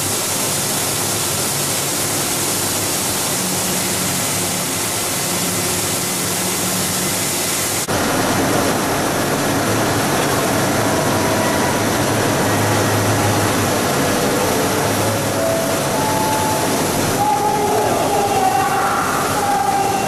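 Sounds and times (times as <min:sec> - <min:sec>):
pelletizing machine noise: 0:00.0 - 0:20.0.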